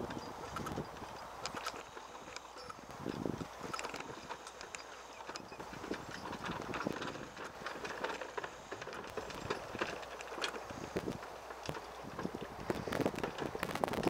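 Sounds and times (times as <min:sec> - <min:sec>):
horse hoofbeats on dirt: 0:00.0 - 0:14.0
wagon knocks and rattles: 0:00.0 - 0:14.0.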